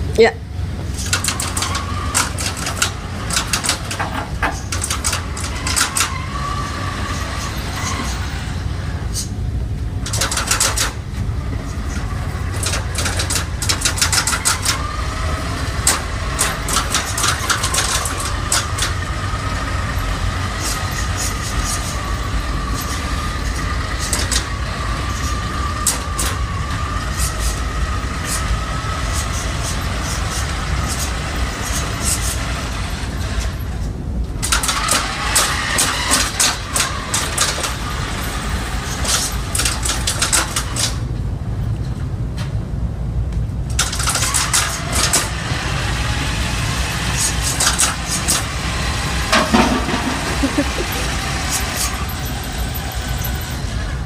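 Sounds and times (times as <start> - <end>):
toy cars rumbling on tiles: 0.8 - 41.1, 43.7 - 54.0.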